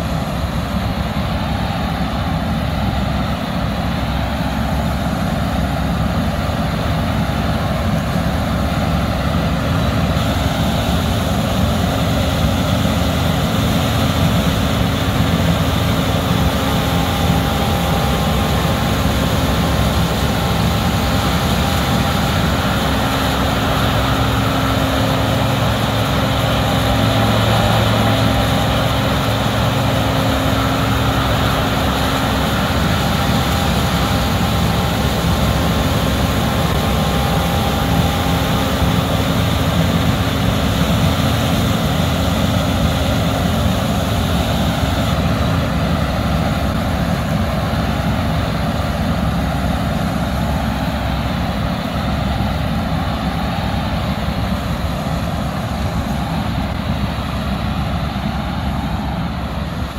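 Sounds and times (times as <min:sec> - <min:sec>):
steady machine drone: 0:00.0 - 0:59.9.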